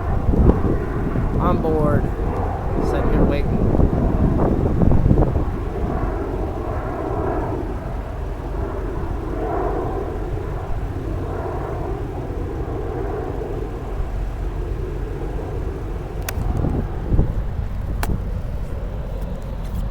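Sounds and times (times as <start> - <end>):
airplane engine rumble overhead: 0.0 - 19.9.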